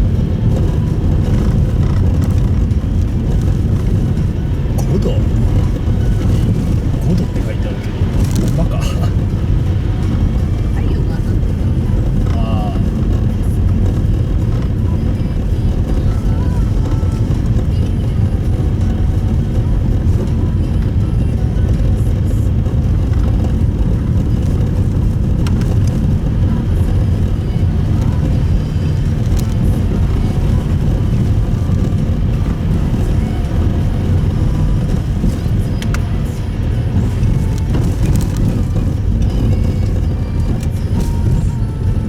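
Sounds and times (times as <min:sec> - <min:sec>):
road and engine rumble in car: 0:00.0 - 0:42.0.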